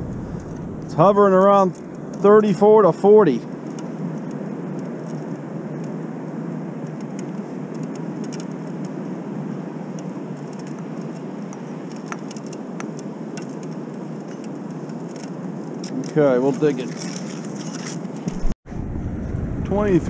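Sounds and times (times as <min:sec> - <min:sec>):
steady rushing outdoor noise: 0:00.0 - 0:20.0.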